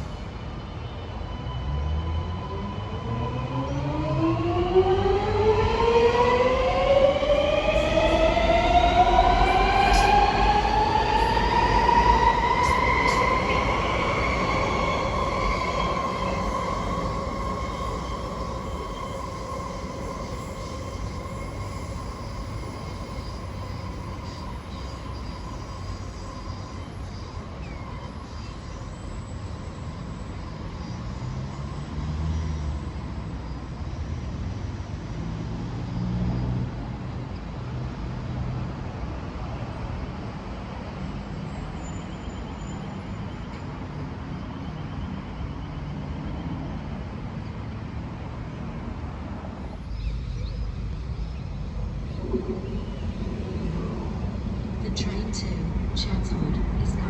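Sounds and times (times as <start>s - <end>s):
train electric whine: 0.0s - 57.0s
train rumble: 0.0s - 57.0s.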